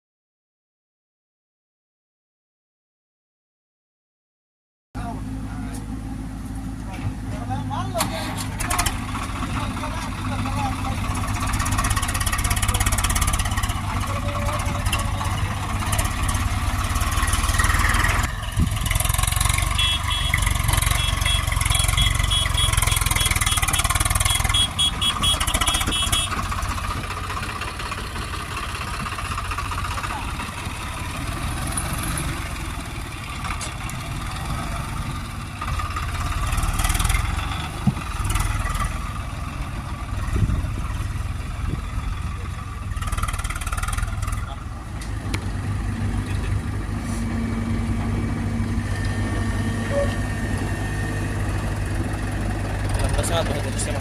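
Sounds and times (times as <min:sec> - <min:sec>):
diesel engine rumbling: 0:05.0 - 0:54.0.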